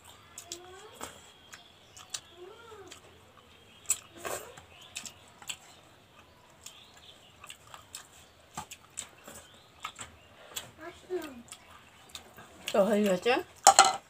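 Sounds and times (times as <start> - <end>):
chewing: 0.0 - 13.2
clicks and smacks of eating: 0.0 - 14.0.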